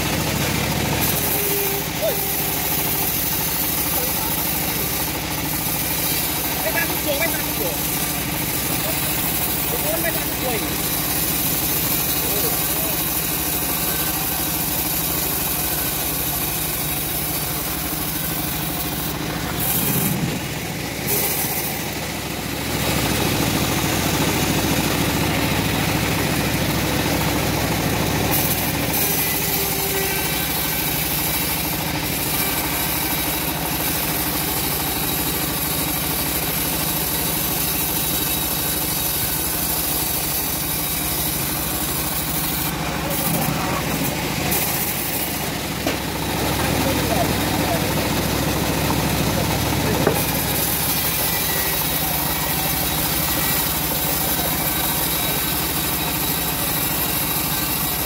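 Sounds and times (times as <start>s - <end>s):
band sawmill cutting log: 0.0s - 58.0s.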